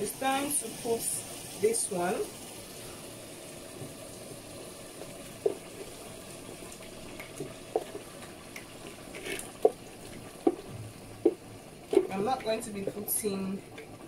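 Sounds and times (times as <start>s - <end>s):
water pouring into a pot: 0.0s - 14.0s.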